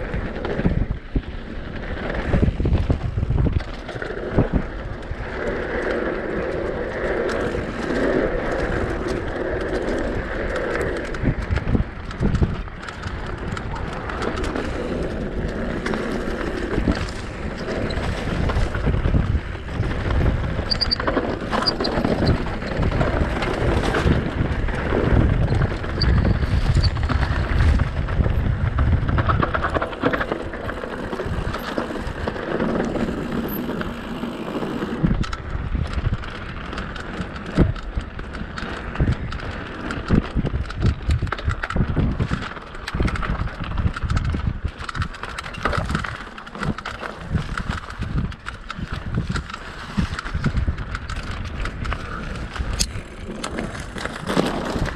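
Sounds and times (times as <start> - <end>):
wind buffeting microphone: 0.0 - 54.9
bike knocks and rattles: 0.1 - 54.9.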